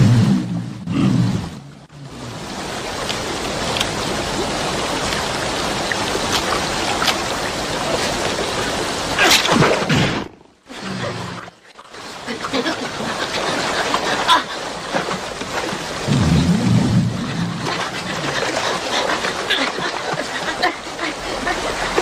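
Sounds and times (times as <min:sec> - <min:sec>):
river water rushing: 0:01.6 - 0:09.9, 0:10.5 - 0:22.0.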